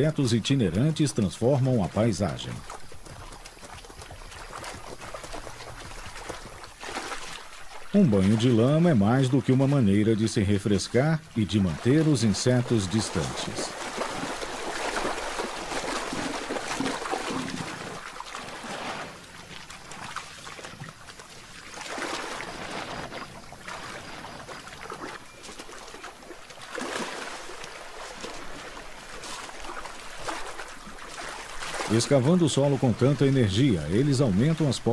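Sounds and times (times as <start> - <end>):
mud and water splashing: 0.0 - 34.9.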